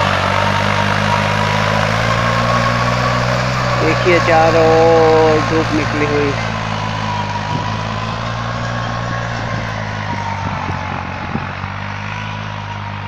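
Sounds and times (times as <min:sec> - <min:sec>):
distant tractor engine droning: 0:00.0 - 0:13.0.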